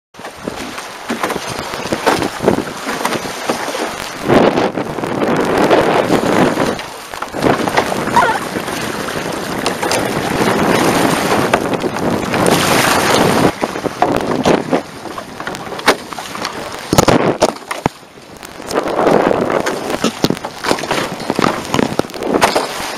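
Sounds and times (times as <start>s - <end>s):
water rushing along hulls: 0.2s - 22.9s
wind buffeting microphone: 0.2s - 22.9s.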